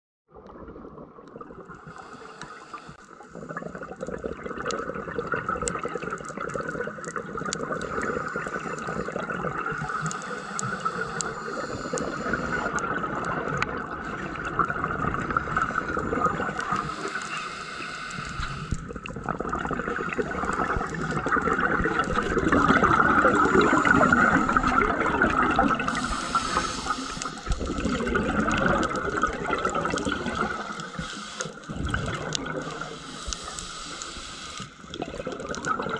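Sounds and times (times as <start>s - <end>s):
underwater watery rush: 0.3s - 35.9s
scuba exhaust bubbles hissing: 1.6s - 35.9s.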